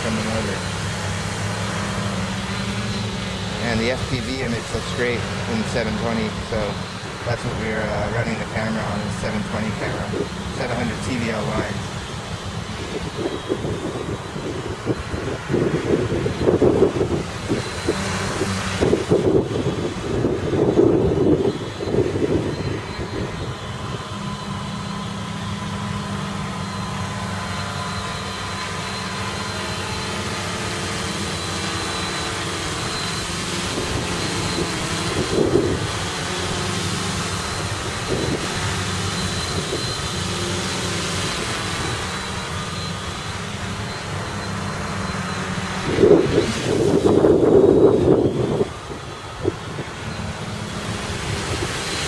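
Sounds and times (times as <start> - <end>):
wind gusts on microphone: 0.0 - 26.6, 30.2 - 52.0
drone propellers whirring: 0.0 - 52.0.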